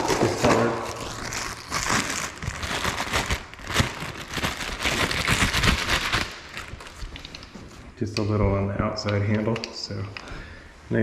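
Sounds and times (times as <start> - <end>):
crinkling and rustling: 0.0 - 10.0.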